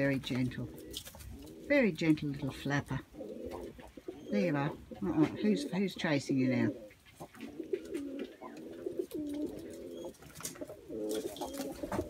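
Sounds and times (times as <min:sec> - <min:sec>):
doves cooing: 0:00.0 - 0:12.0.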